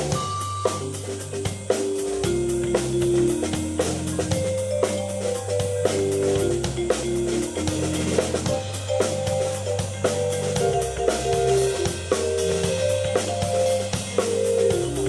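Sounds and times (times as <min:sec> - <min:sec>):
drum kit beat: 0:00.0 - 0:15.0
keyboard chords and melody: 0:00.0 - 0:15.0.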